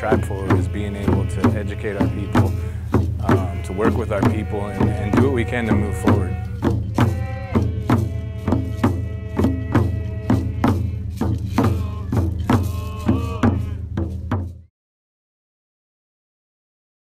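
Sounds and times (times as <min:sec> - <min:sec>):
steady drum beat: 0:00.0 - 0:14.7.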